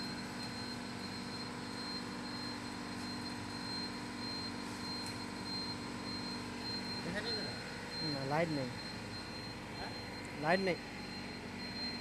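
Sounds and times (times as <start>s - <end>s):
high steady whine: 0.0s - 12.0s
workshop machinery hum: 0.0s - 12.0s.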